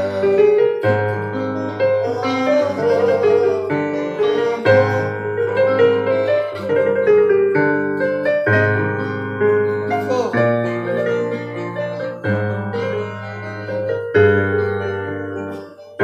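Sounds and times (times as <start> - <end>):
electric keyboard melody: 0.0 - 16.0.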